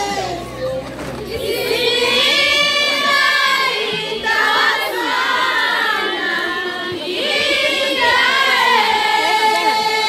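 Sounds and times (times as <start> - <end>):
women's choir singing a chant: 0.0 - 10.0.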